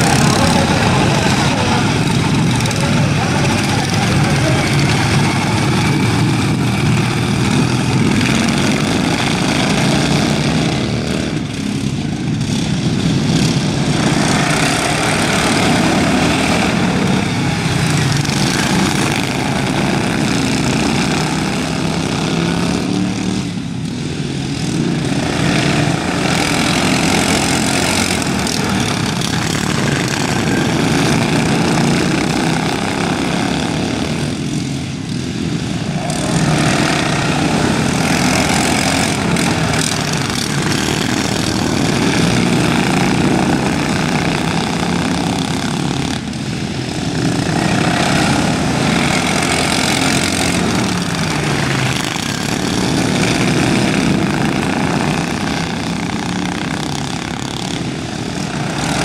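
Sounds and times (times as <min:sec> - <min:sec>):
racing lawn mowers buzzing: 0:00.0 - 0:59.0.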